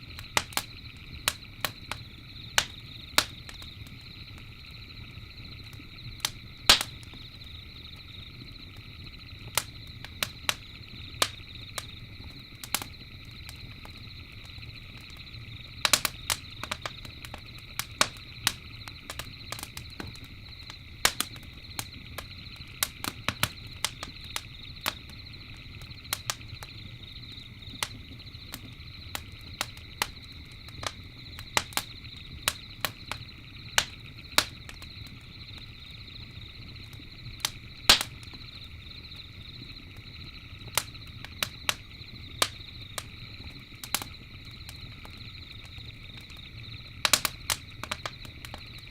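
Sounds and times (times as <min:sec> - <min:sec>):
campfire crackling and popping: 0:00.0 - 0:48.9
low rumble of flames: 0:00.0 - 0:48.9
night insects chorus: 0:00.0 - 0:48.9.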